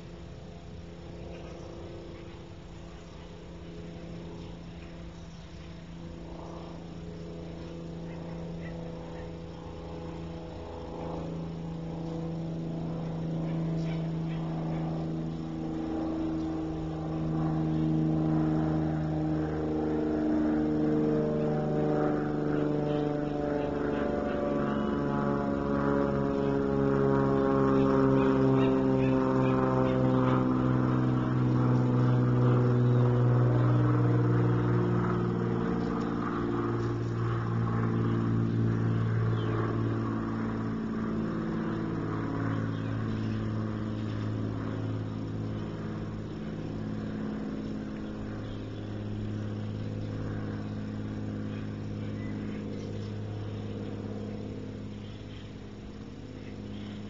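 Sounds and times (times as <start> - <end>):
motor droning: 0.0 - 57.0.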